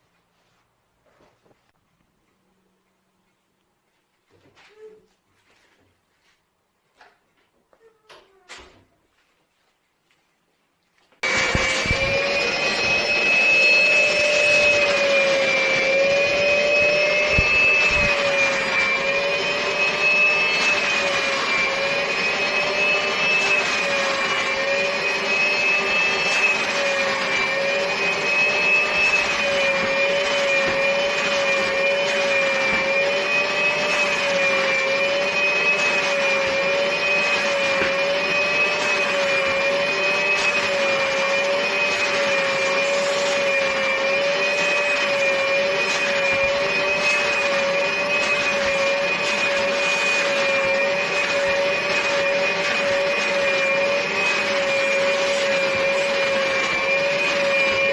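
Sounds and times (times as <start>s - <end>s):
vacuum cleaner motor whine: 11.2s - 57.9s.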